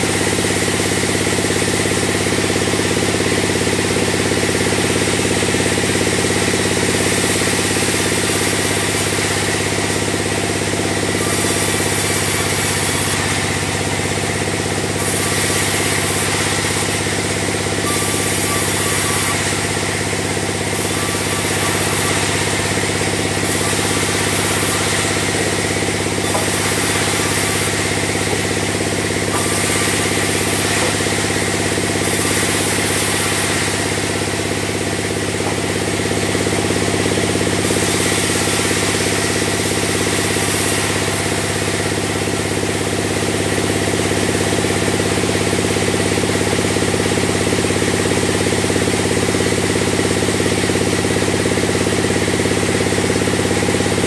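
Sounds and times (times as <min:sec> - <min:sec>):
bandsaw mill droning: 0:00.0 - 0:54.0.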